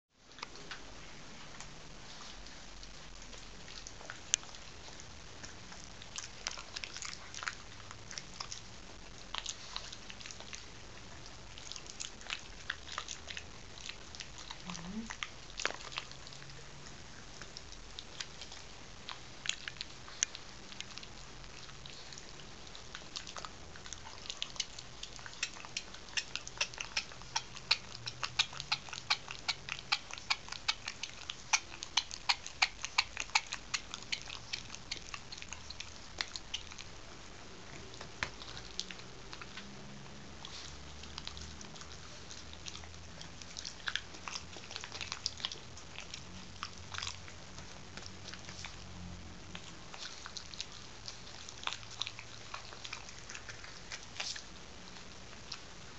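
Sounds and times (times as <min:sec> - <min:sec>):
puppy chewing a bone: 0:00.1 - 0:55.9.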